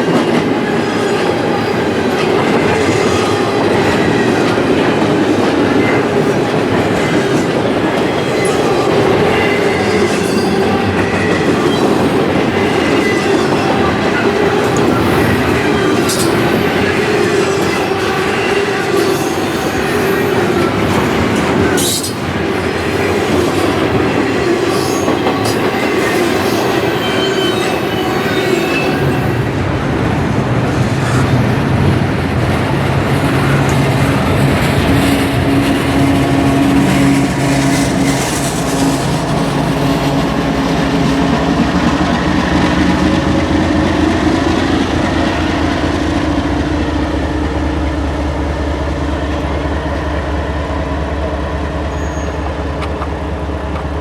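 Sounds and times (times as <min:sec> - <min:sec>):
train cars rolling on track: 0:00.0 - 0:54.0.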